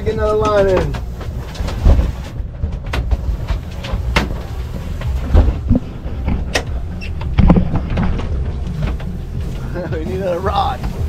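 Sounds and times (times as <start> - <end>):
gear knocking on deck: 0.0 - 9.2
boat engines rumbling: 0.0 - 11.0.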